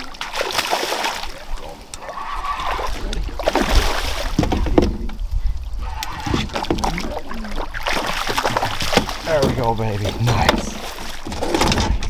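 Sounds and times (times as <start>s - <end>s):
fish splashing at water surface: 0.0s - 5.0s, 5.9s - 11.4s
water sloshing: 0.0s - 12.0s.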